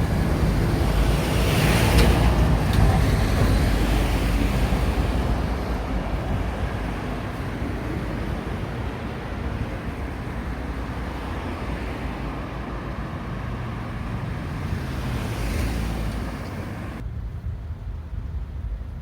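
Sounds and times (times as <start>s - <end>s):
road traffic passing: 0.0s - 17.3s
wind rumbling on microphone: 0.0s - 19.0s.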